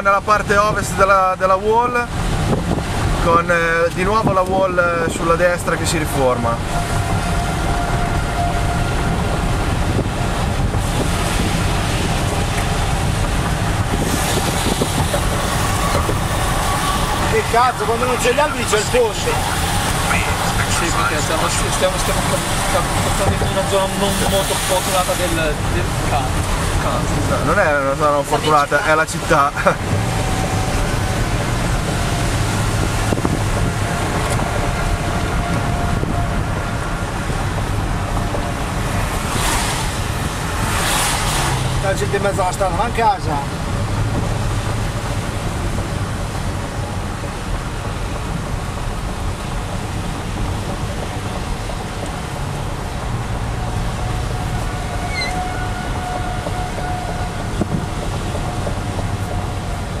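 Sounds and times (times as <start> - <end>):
car road and engine noise: 0.0 - 60.0
wind rushing past car: 0.0 - 60.0.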